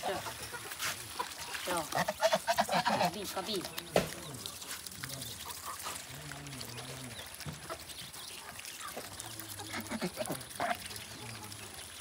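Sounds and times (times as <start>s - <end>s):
geese pecking grain in metal bowl: 0.0s - 12.0s.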